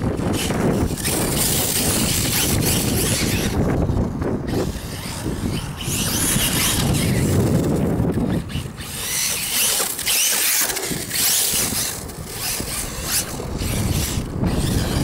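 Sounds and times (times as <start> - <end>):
electric rc car driving: 0.0 - 15.0
wind buffeting microphone: 0.0 - 15.0.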